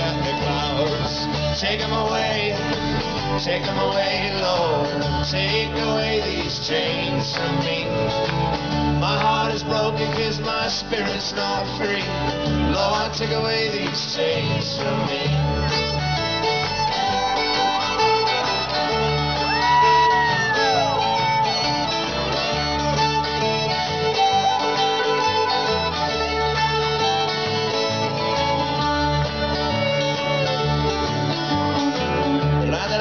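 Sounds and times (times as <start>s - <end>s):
banjo: 0.0s - 33.0s
fiddle: 0.0s - 33.0s
strummed acoustic guitars: 0.0s - 33.0s
upright bass: 0.0s - 33.0s.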